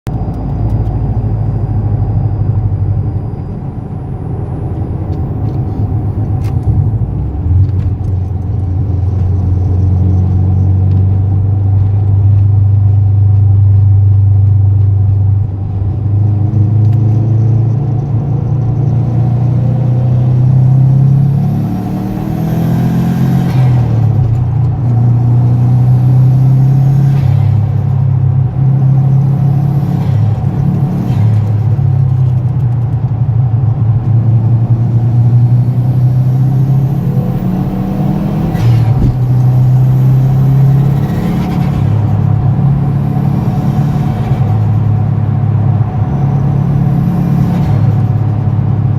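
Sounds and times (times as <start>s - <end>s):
turbocharged car engine accelerating: 0.1s - 48.9s.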